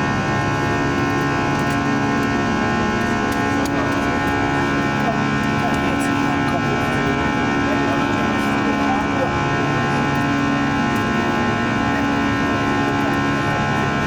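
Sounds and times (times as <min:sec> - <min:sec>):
jet engines droning in cabin: 0:00.0 - 0:14.0
whining engine tones: 0:00.0 - 0:14.0.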